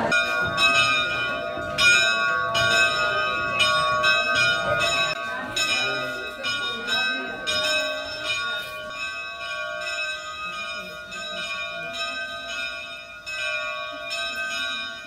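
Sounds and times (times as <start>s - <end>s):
bell ringing: 0.0s - 15.0s.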